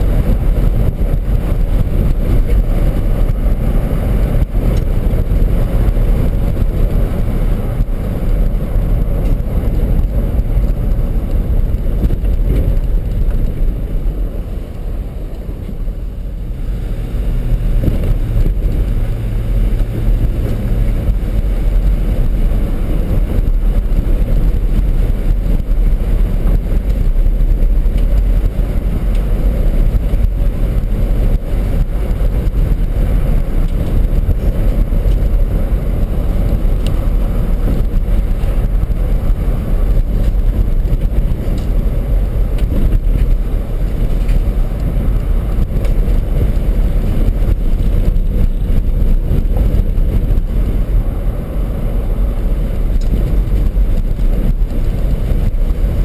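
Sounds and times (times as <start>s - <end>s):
truck driving on dirt road: 0.0s - 56.0s.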